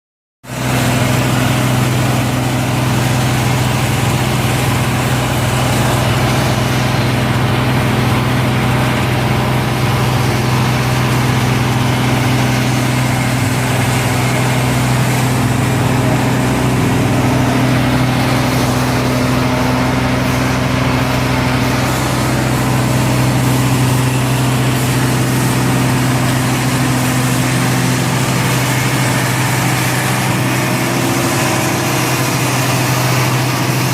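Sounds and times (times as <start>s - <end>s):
pulverizer machine humming: 0.5s - 33.9s.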